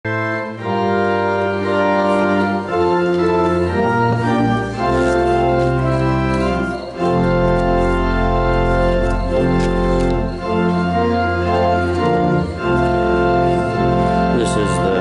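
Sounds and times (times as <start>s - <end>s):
church organ chords: 0.1s - 15.0s.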